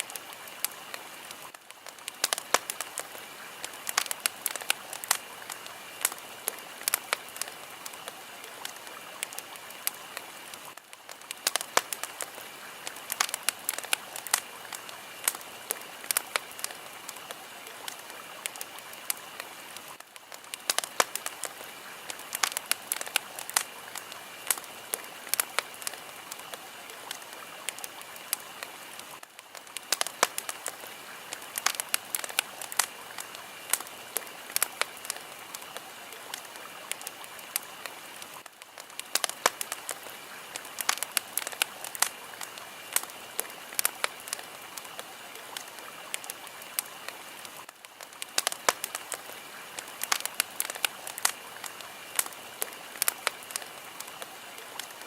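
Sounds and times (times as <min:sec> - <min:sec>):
fire crackling: 0:00.0 - 0:55.0
steady hiss: 0:00.0 - 0:55.0.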